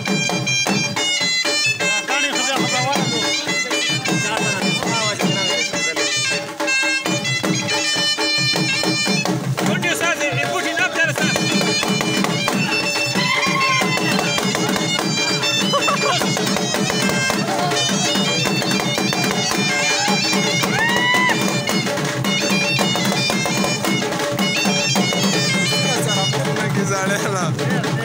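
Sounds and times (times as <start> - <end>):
folk dance music with reed instrument: 0.0 - 28.0.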